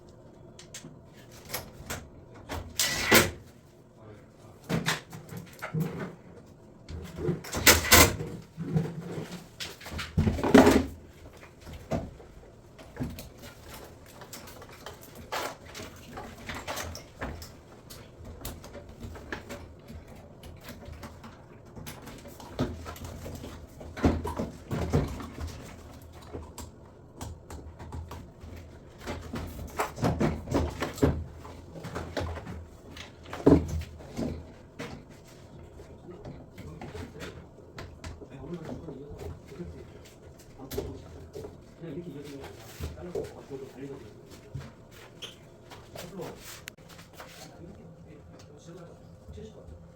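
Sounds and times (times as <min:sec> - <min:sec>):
knocks and clatter of parts: 0:04.5 - 0:47.8.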